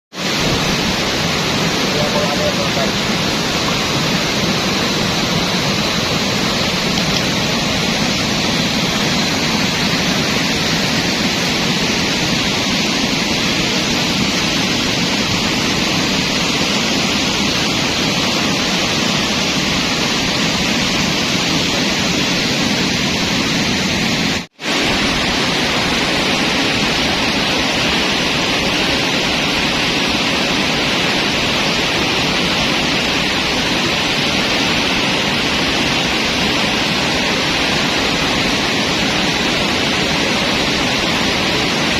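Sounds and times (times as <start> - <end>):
river rapids rushing: 0.2 - 41.9.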